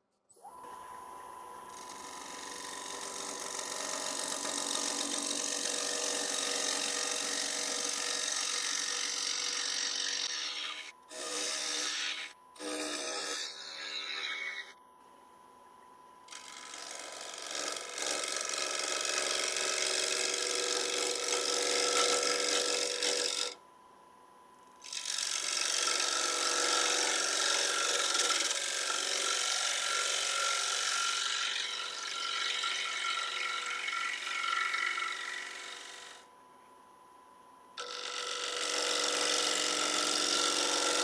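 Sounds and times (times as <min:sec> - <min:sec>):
wood lathe gouge scraping wood: 0:01.7 - 0:14.7, 0:16.3 - 0:23.6, 0:24.8 - 0:36.2, 0:37.8 - 0:41.0.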